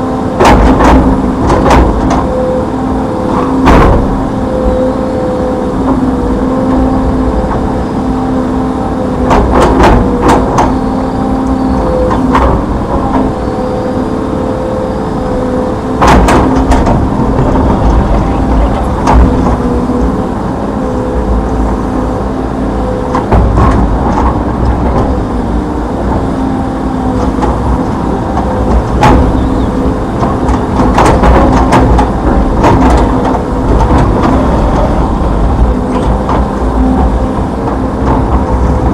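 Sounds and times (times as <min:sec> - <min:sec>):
excavator diesel engine whining: 0:00.0 - 0:38.9.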